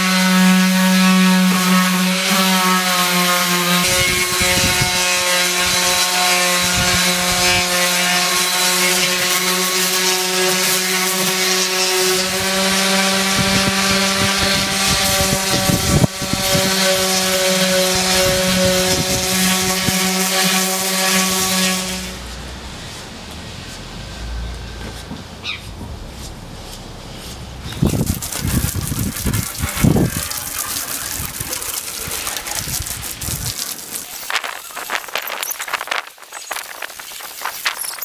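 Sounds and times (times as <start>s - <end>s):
orbital sander humming: 0.0s - 24.1s, 25.6s - 37.6s
sanding pad scuffing wood: 0.0s - 24.2s, 24.8s - 38.0s.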